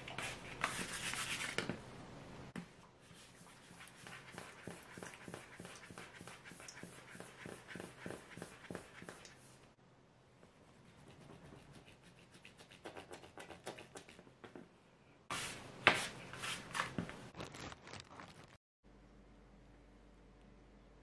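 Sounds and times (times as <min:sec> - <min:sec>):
faint room hum: 0:00.0 - 0:17.3, 0:18.8 - 0:21.0.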